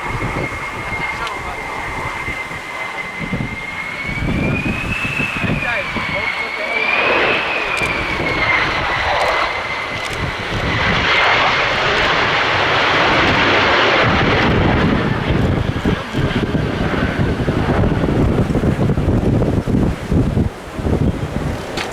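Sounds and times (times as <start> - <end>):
jet engine roar with whine: 0.0 - 21.9
wind buffeting microphone: 0.0 - 21.9.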